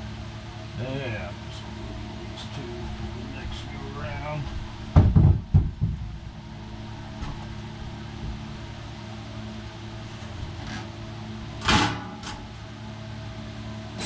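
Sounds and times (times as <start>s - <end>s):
machine humming: 0.0s - 11.8s.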